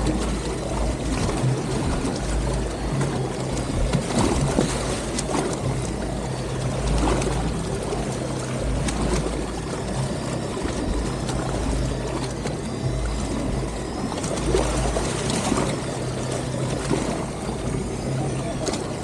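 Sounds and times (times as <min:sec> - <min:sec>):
boat engine running: 0:00.0 - 0:19.0
water noise: 0:00.0 - 0:19.0.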